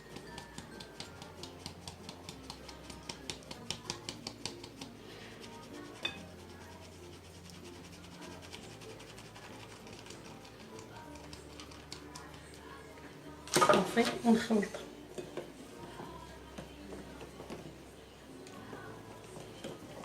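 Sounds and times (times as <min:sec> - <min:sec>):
batter stirred in a bowl: 0:00.0 - 0:14.0, 0:14.8 - 0:20.0
background music: 0:00.0 - 0:20.0.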